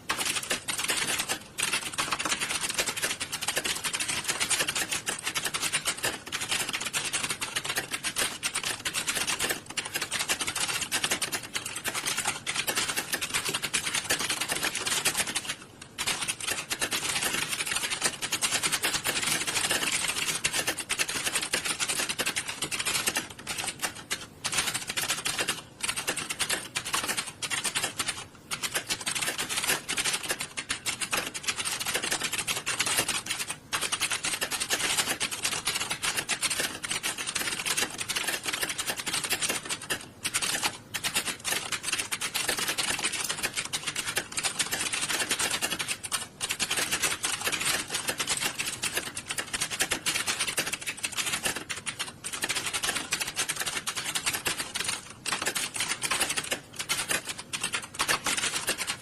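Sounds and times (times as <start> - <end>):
many keyboards typing: 0.0 - 59.0.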